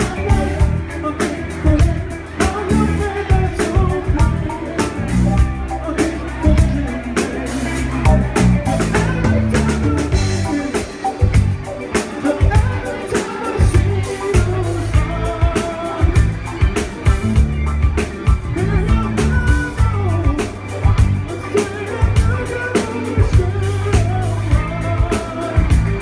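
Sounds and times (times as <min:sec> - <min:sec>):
bass guitar: 0:00.0 - 0:26.0
drum kit: 0:00.0 - 0:26.0
electric guitar: 0:00.0 - 0:26.0
person singing: 0:00.0 - 0:26.0.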